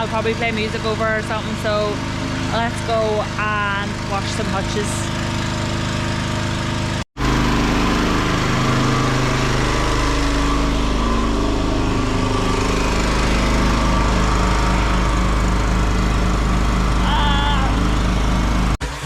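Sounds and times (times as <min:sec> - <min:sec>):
pressure washer running: 0:00.0 - 0:19.0.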